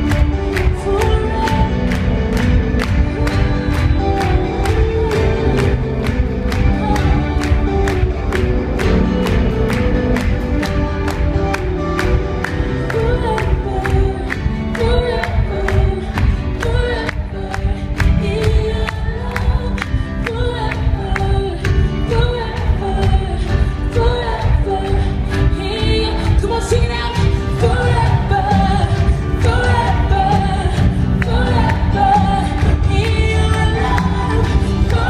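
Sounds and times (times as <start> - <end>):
person singing lead vocal: 0.0 - 35.0
worship band playing: 0.0 - 35.0.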